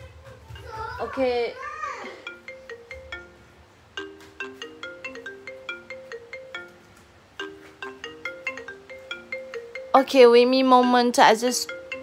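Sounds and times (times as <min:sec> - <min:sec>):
marimba phone ringtone: 0:02.0 - 0:12.0.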